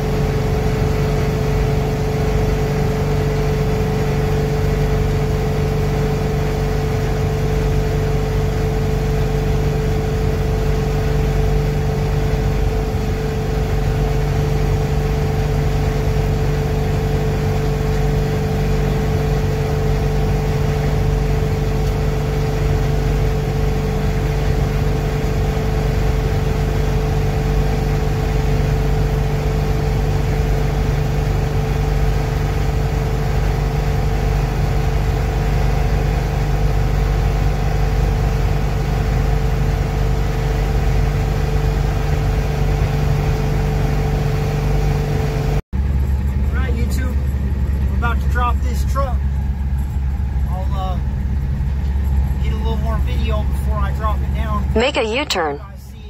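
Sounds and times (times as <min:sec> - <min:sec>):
diesel engine hum: 0:00.0 - 0:56.0.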